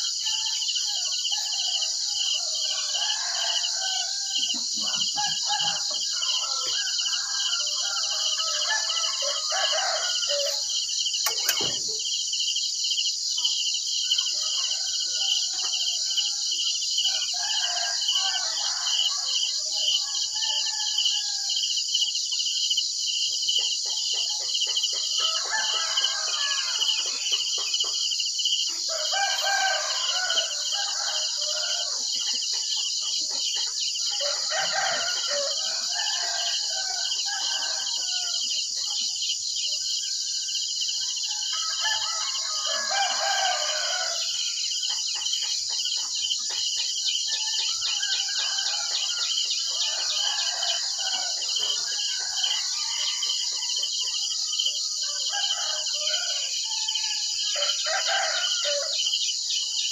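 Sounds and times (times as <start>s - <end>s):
roosters crowing: 0.0s - 12.0s, 14.1s - 21.8s, 24.2s - 27.7s, 28.7s - 33.0s, 34.0s - 38.8s, 40.9s - 45.2s, 47.2s - 59.5s
crickets trilling: 0.0s - 59.9s.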